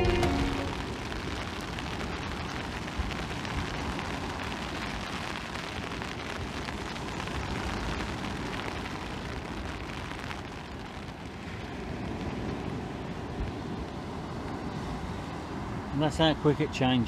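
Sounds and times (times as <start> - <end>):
surf breaking on a beach: 0.0 - 17.0
wind buffeting the microphone: 0.0 - 17.0.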